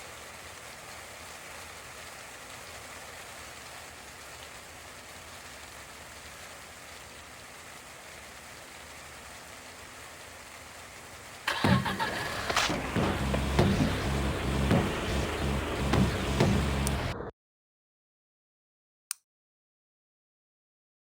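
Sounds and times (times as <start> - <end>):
steady rain-like hiss: 0.0 - 17.1.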